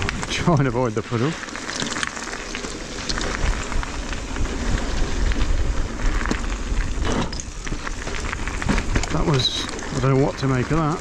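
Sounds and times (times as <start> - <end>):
bike rattling and clicking: 0.0 - 11.0
tyres crunching over stones: 0.0 - 11.0
wind rumble on microphone: 0.0 - 11.0.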